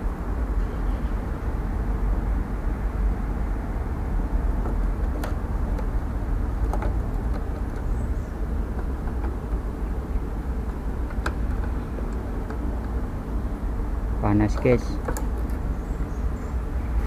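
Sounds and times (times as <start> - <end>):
air conditioner unit running: 0.0 - 17.0.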